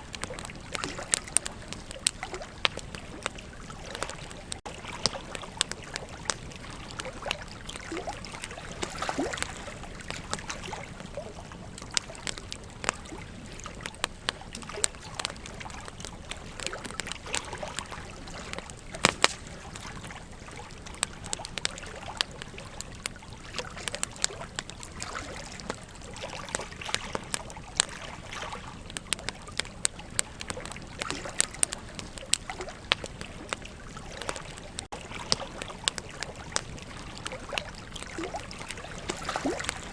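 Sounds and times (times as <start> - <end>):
campfire crackling: 0.0 - 39.9
sharp pops from fire: 0.0 - 39.9.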